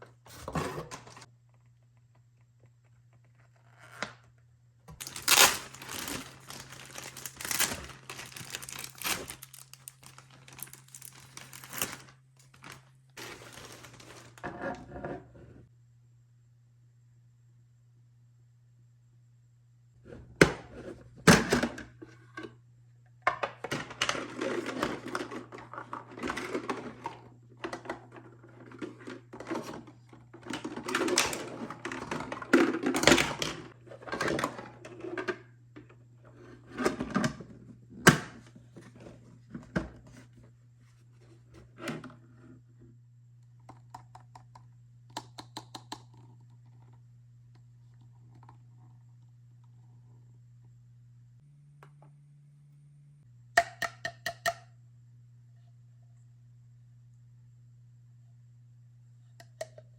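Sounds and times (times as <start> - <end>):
faint low hum: 0.0 - 53.6, 54.5 - 59.9.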